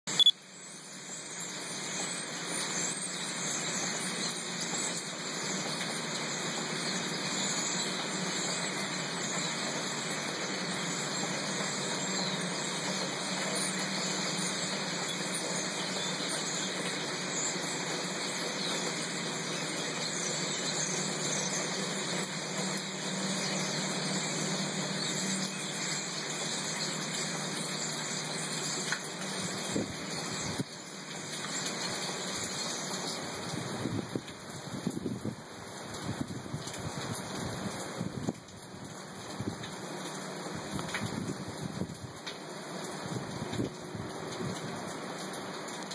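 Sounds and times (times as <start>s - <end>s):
heavy rain: 0.1s - 45.9s.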